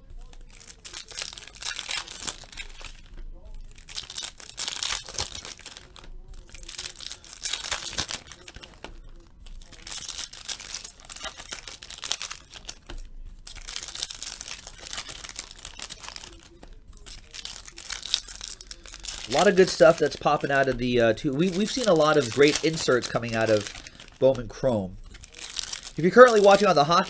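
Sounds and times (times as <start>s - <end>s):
foil wrapper tearing and crinkling: 0.0s - 27.0s.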